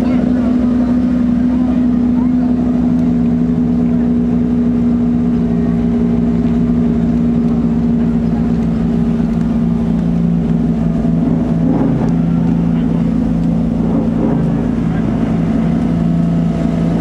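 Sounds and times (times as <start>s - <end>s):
motor droning: 0.0s - 17.0s.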